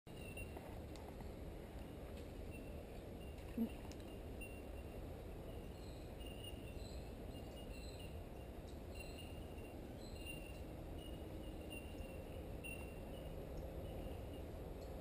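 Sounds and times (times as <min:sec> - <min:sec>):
low steady background noise: 0:00.1 - 0:15.0.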